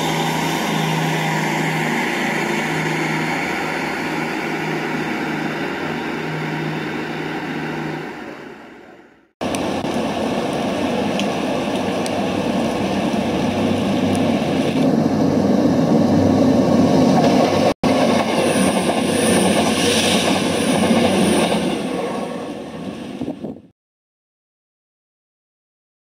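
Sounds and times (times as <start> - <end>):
train rumbling on rails: 0.0 - 23.7.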